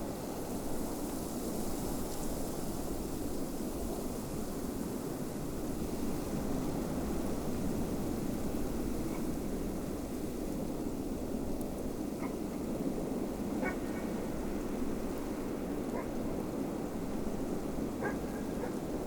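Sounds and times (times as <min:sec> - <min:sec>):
wind blowing steadily: 0:00.0 - 0:19.0.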